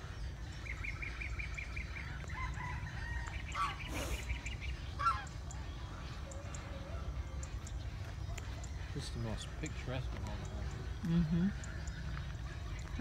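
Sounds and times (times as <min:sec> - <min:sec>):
birds trilling and calling: 0:00.0 - 0:13.0.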